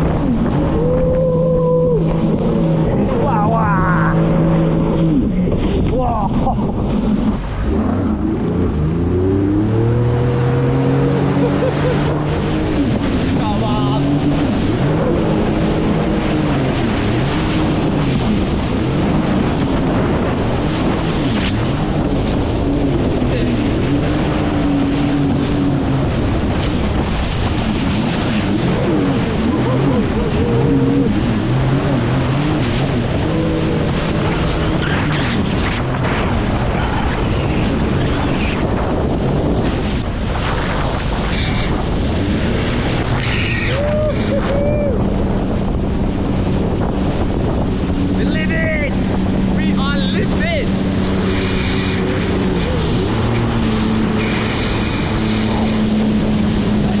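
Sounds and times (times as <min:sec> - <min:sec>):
jet ski engine running: 0:00.0 - 0:57.0
wind on microphone: 0:00.0 - 0:57.0.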